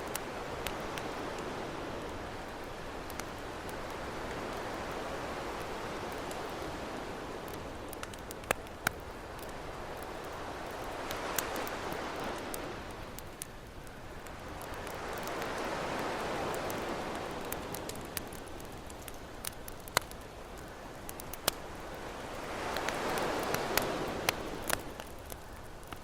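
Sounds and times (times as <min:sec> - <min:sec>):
ocean waves washing: 0:00.0 - 0:20.2, 0:21.1 - 0:25.4
campfire crackling and popping: 0:00.0 - 0:26.0.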